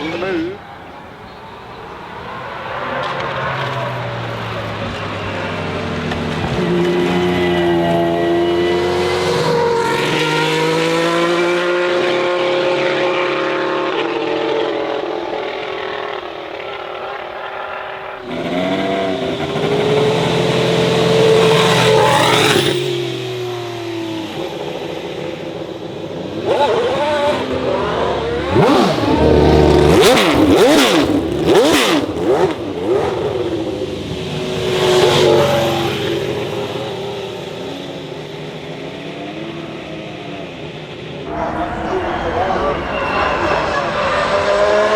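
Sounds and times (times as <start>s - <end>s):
racing car engine revving: 2.6s - 39.8s, 41.2s - 44.9s.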